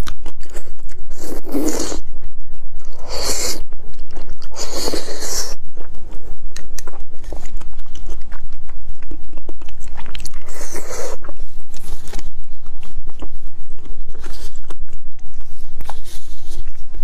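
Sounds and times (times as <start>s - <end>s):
steady low hum: 0.0s - 17.0s
wet chewing and lip-smacking: 0.0s - 17.0s.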